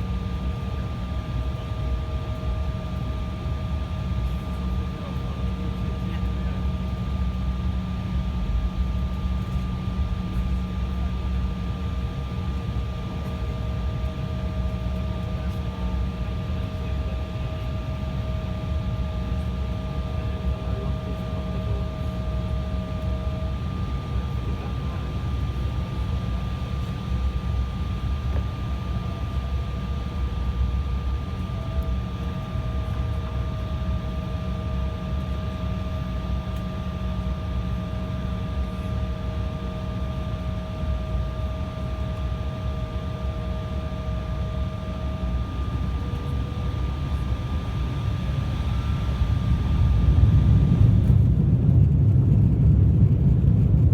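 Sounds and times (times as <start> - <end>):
faint constant whines: 0.0 - 53.9
jet engine drone in cabin: 0.0 - 53.9.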